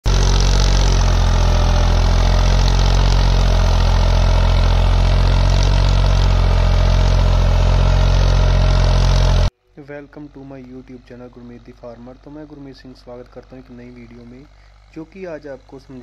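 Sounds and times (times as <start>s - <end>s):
tractor diesel engine under load: 0.0s - 9.5s, 10.1s - 16.0s.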